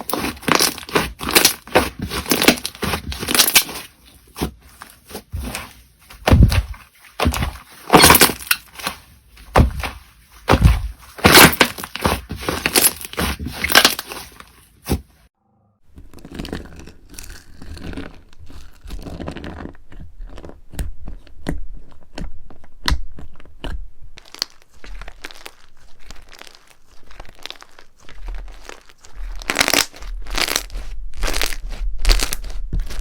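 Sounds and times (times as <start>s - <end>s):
slime squished by hands: 0.0s - 15.2s, 16.0s - 33.0s.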